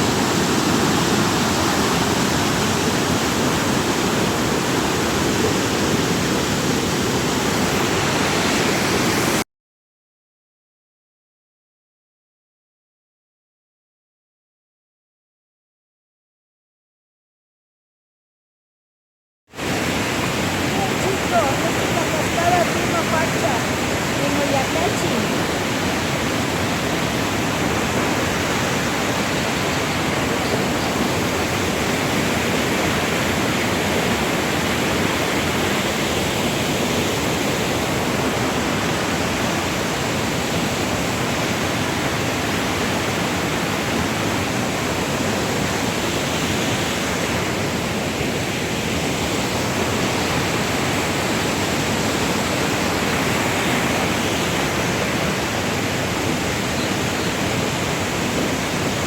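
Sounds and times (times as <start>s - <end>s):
waterfall rushing: 0.0s - 9.4s, 19.6s - 59.0s.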